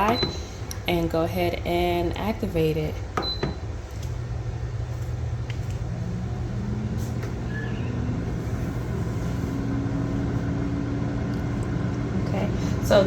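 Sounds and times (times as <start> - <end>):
air fryer fan whirring: 0.0 - 13.0.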